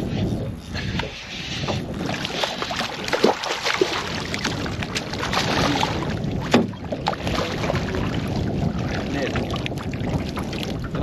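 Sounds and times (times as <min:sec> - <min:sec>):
water splashing beside boat: 0:00.8 - 0:11.0.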